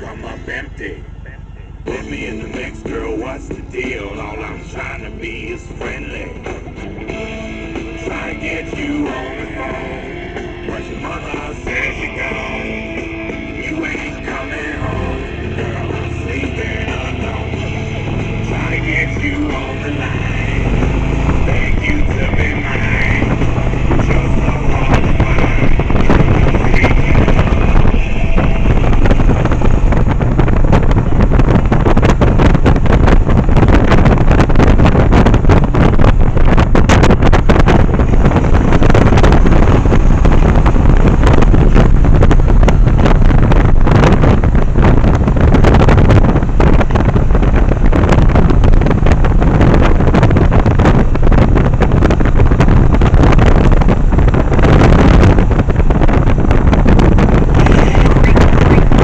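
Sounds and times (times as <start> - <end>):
motorcycle running at speed: 0.0 - 59.0
wind buffeting microphone: 0.0 - 59.0.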